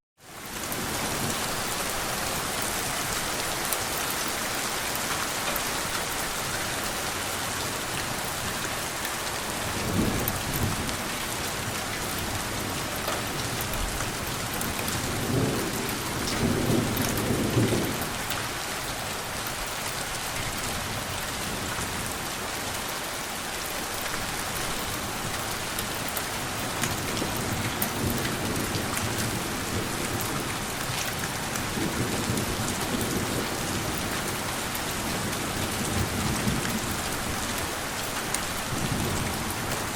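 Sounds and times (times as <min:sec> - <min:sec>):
steady rain falling: 0:00.2 - 0:39.9.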